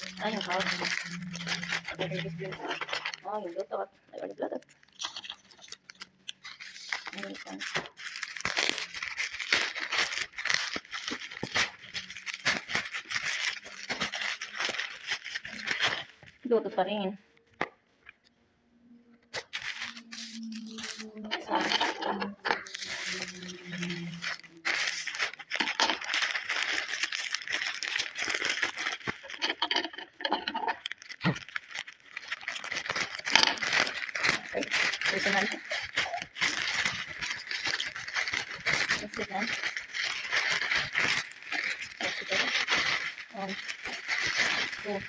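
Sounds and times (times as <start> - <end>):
plastic bag crinkling and tearing: 0.0 - 16.8, 19.2 - 45.0.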